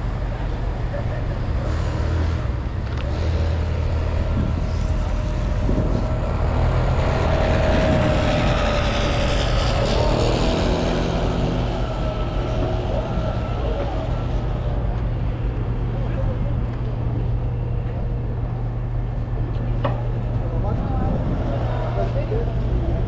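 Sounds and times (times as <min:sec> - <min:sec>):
low rumble of engines: 0:00.0 - 0:23.0.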